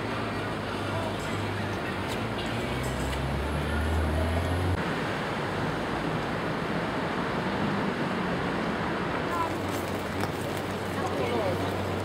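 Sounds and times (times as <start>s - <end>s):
traffic: 0.0s - 12.0s
wind: 0.0s - 12.0s.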